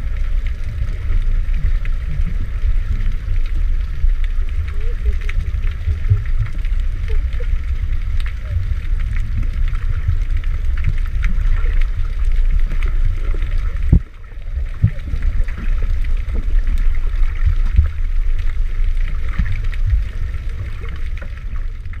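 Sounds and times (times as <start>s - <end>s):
muffled underwater water sloshing: 0.0s - 22.0s.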